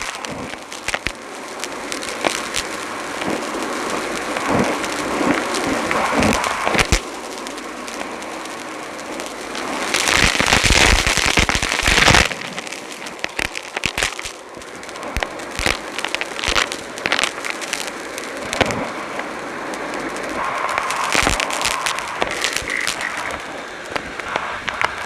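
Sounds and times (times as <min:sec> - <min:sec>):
debris crackling through vacuum: 0:00.0 - 0:25.0.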